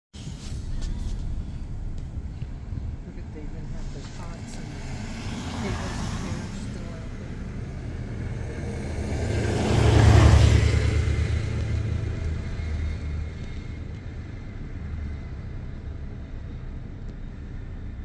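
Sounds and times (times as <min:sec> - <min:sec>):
vehicle engine rumble: 0:00.1 - 0:18.0
road noise hiss: 0:00.2 - 0:18.0.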